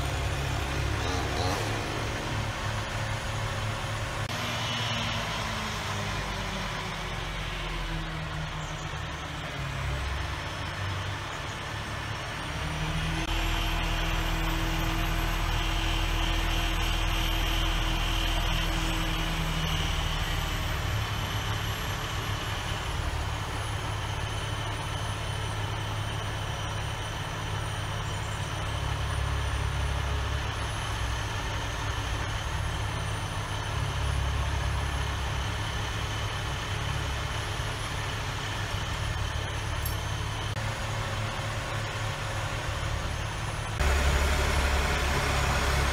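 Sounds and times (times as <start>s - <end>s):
crane engine running under load: 0.0s - 45.9s.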